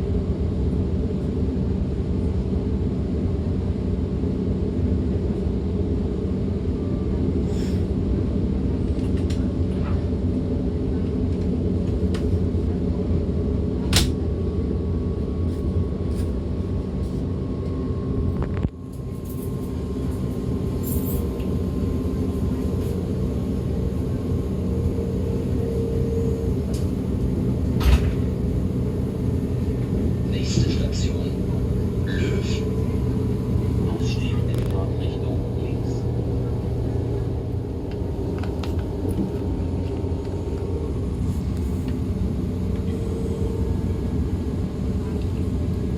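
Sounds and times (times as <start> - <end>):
train rumbling on board: 0.0 - 45.9.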